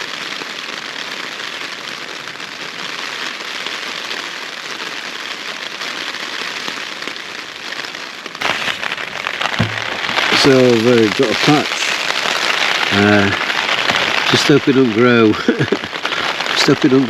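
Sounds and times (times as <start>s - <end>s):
heavy rain drumming on tent fabric: 0.0s - 17.0s.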